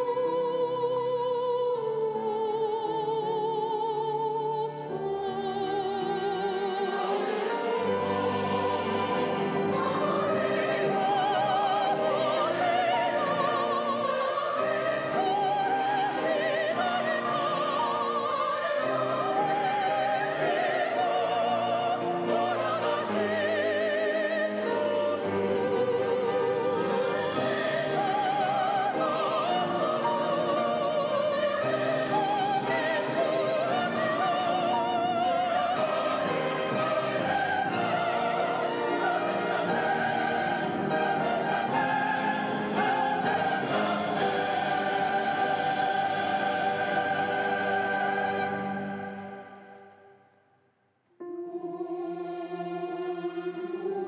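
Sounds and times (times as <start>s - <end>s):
choir singing with vibrato: 0.0s - 50.2s, 51.2s - 54.0s
sustained orchestral chords: 5.0s - 49.8s.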